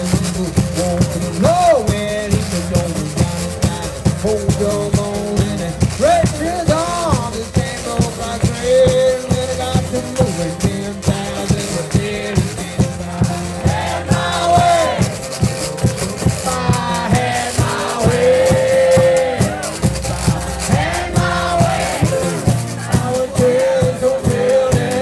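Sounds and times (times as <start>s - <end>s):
man singing long notes: 0.0s - 15.1s, 16.4s - 25.0s
acoustic guitar fast rhythm: 0.0s - 25.0s
washboard played by hand: 0.0s - 25.0s.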